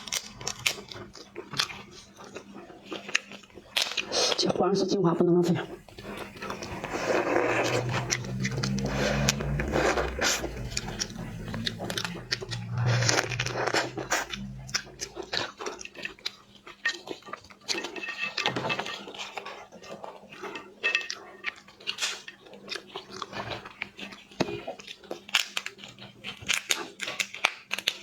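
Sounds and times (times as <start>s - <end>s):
crunching and wet chewing: 0.0s - 4.5s, 5.6s - 28.0s.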